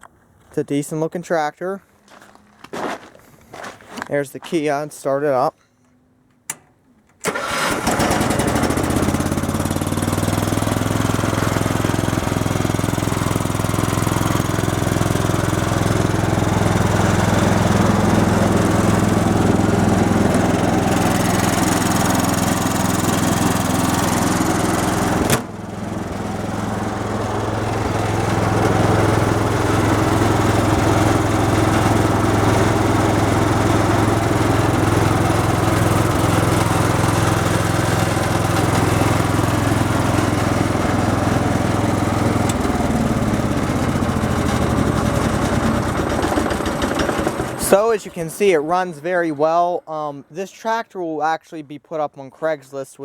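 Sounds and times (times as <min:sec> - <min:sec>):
tractor engine running: 0:06.5 - 0:49.4.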